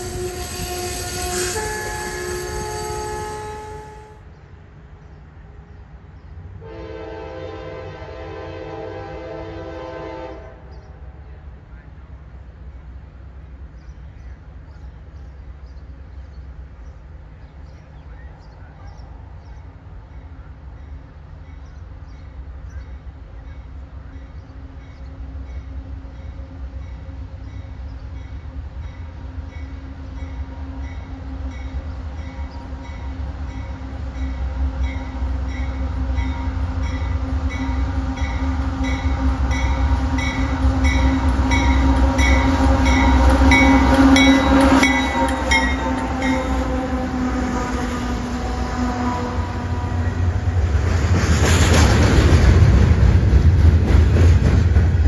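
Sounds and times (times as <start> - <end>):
rush of train passing: 0.0 - 55.0
train engine rumble: 0.0 - 55.0.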